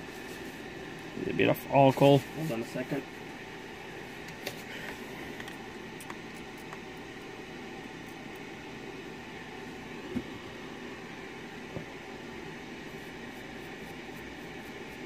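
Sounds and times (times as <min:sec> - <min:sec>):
steady fan-like hiss: 0:00.0 - 0:15.0.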